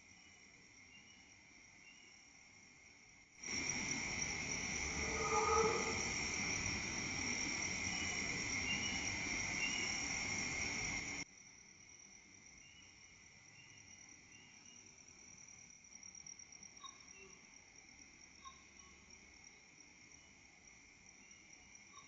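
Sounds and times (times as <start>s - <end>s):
background hiss: 0.0s - 22.0s
crickets and insects trilling: 0.0s - 22.0s.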